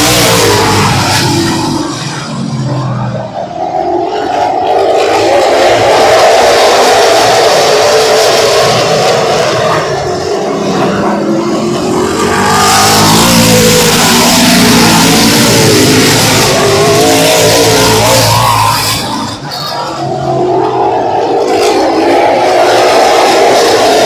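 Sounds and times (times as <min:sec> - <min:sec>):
stock car engines racing: 0:00.0 - 0:24.0.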